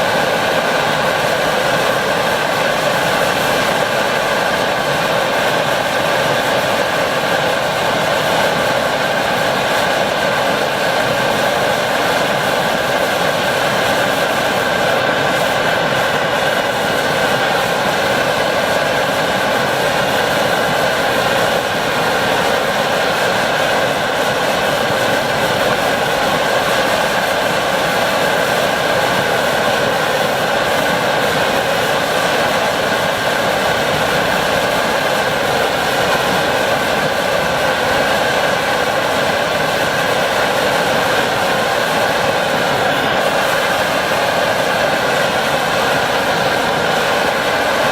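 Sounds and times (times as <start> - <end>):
pressure stove burner roaring: 0.0 - 47.9.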